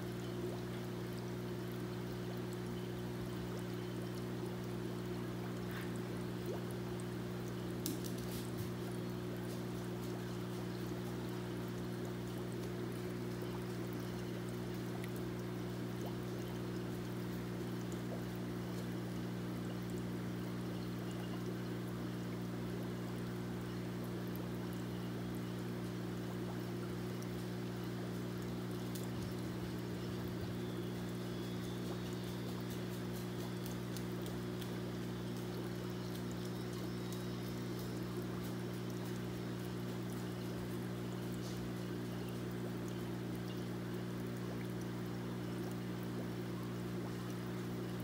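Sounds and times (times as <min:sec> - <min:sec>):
pump humming: 0:00.0 - 0:48.0.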